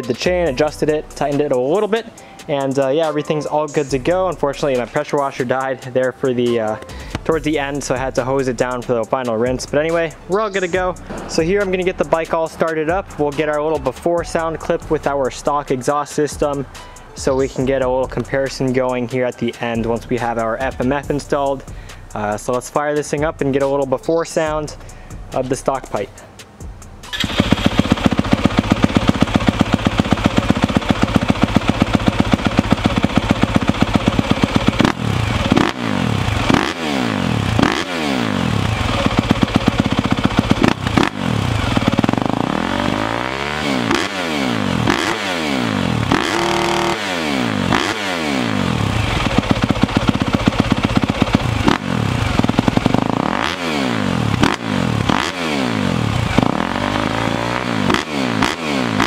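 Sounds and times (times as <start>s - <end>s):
motorcycle engine idling and revving: 0.3s - 2.9s, 3.8s - 5.7s, 6.5s - 22.5s, 26.6s - 59.0s.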